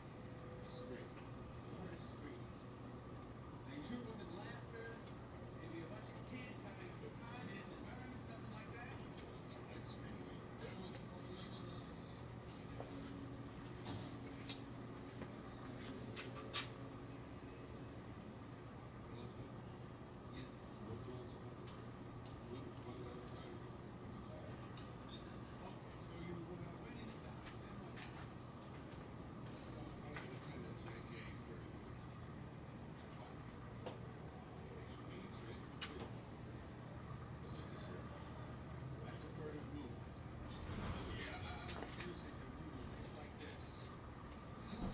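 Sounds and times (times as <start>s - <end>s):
cricket trilling: 0.0s - 44.9s.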